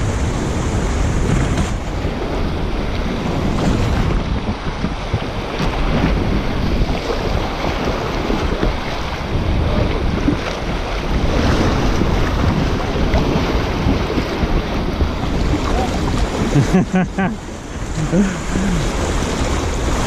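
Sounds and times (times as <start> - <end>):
water lapping around a kayak: 0.0 - 20.0
wind buffeting the microphone: 0.0 - 20.0.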